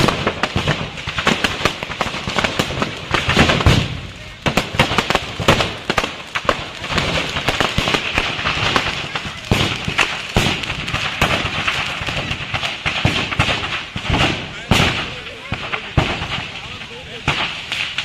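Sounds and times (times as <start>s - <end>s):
firecrackers exploding: 0.0s - 18.0s.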